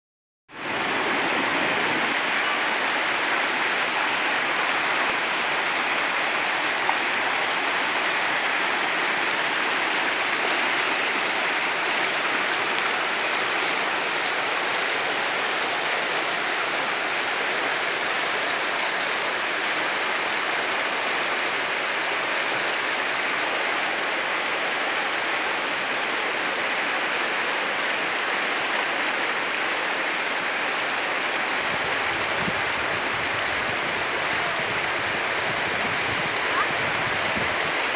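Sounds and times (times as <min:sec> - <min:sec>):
stream rushing over boulders: 0:00.5 - 0:37.9.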